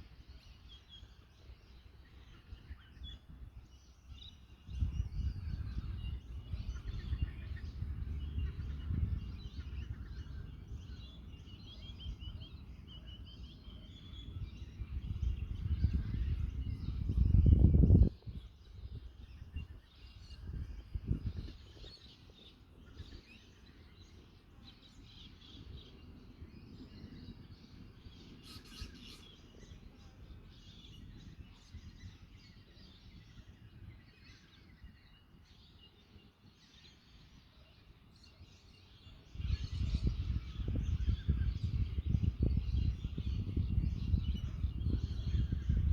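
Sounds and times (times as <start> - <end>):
wild birds chirping: 0.0 - 45.9
wind rumble on microphone: 0.0 - 45.9.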